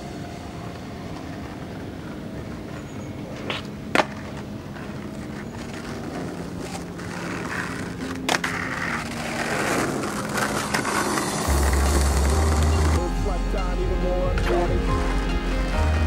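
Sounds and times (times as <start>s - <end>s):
skateboard wheels rolling on asphalt: 0.0s - 13.4s
skateboard clack: 0.6s - 13.8s.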